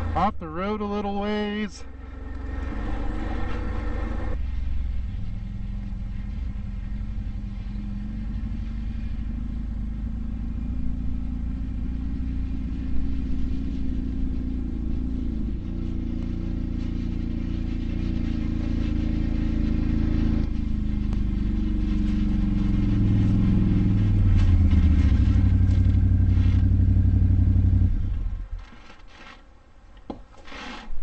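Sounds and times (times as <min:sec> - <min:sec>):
atv engine running: 0:00.0 - 0:28.5.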